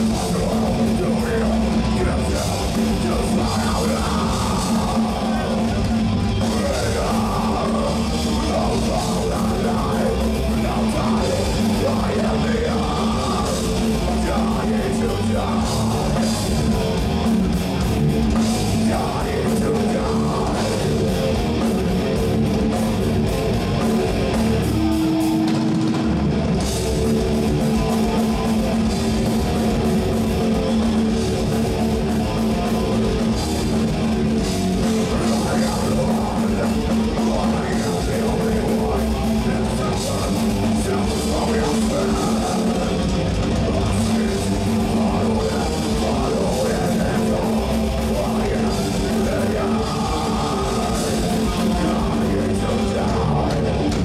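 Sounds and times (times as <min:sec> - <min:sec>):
bass guitar: 0:00.0 - 0:54.0
distorted electric guitars: 0:00.0 - 0:54.0
drum kit: 0:00.0 - 0:54.0.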